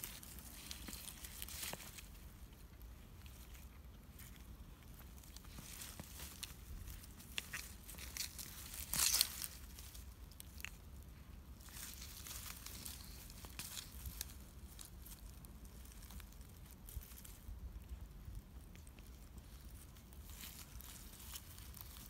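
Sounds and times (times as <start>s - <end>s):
dry grass rustling and crackling: 0.0s - 22.0s.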